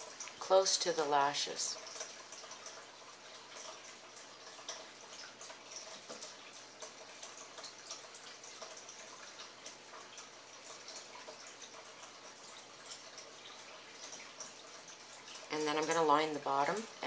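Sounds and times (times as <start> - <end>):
low steady hiss: 0.0 - 17.0
small clicks and ticks: 1.8 - 15.5.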